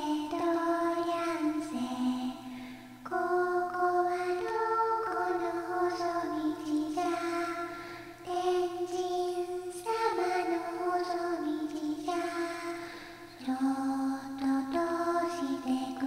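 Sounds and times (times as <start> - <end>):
slow music of long held notes: 0.0 - 16.0.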